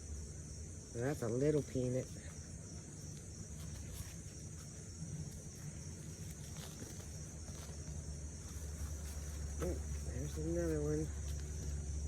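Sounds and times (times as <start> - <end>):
crickets buzzing: 0.0 - 12.0.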